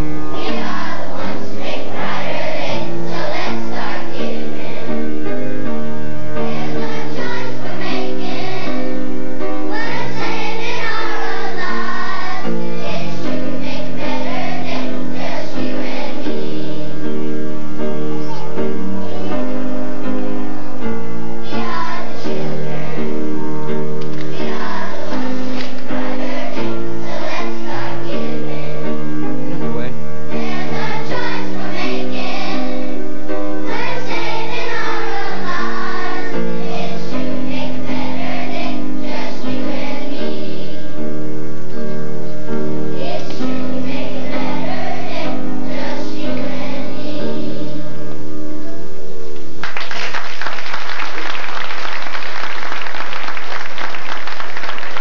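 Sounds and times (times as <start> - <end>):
children's choir singing: 0.0 - 48.8, 49.6 - 55.0
instrumental accompaniment chords: 0.0 - 49.6.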